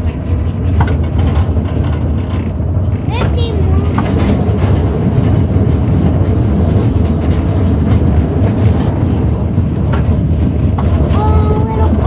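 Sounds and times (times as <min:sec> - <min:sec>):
streetcar rumbling on track: 0:00.0 - 0:12.0.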